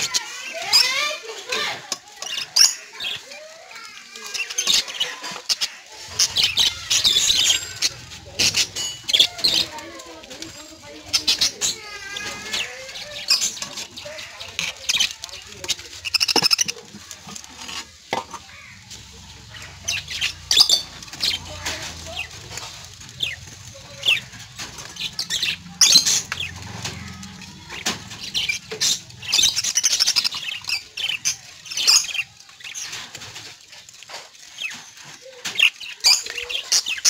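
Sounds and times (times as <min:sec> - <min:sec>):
high-pitched bird calls: 0:00.0 - 0:33.8
birds flapping wings: 0:02.8 - 0:37.0.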